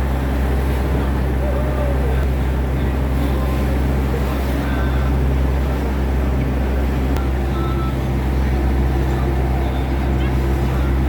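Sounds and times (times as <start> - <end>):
boat engine drone: 0.0 - 11.0
water noise: 0.0 - 11.0
wind: 0.0 - 11.0.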